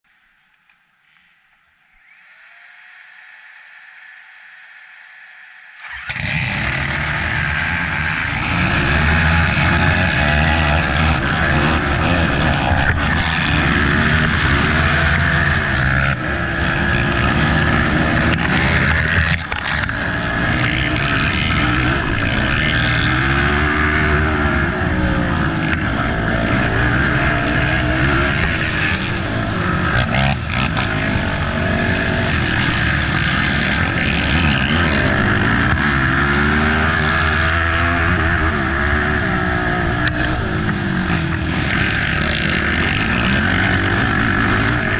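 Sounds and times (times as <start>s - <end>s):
atv engine revving: 5.8s - 44.9s.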